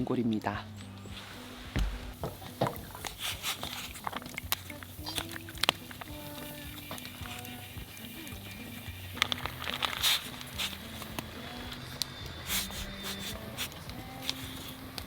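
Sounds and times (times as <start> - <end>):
soft background music: 0.0 - 15.0
cooking utensils clicking: 0.4 - 15.0.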